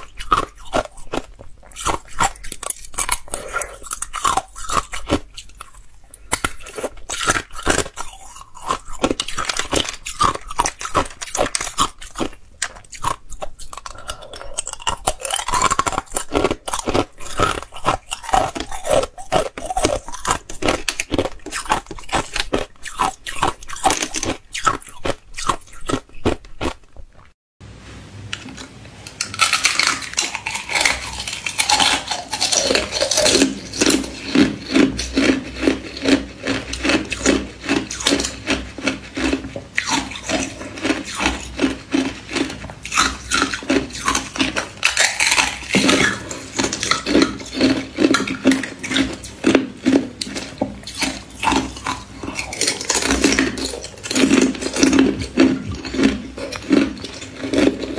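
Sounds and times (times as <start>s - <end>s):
ice being chewed: 0.0s - 27.4s, 28.5s - 57.9s.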